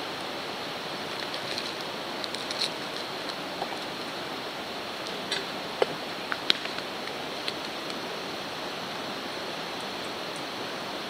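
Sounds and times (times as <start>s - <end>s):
fire crackles: 0.5s - 10.0s.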